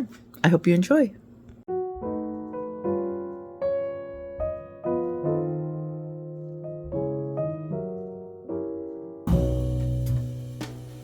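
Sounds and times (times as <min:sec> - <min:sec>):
slow piano music: 0:01.7 - 0:11.0.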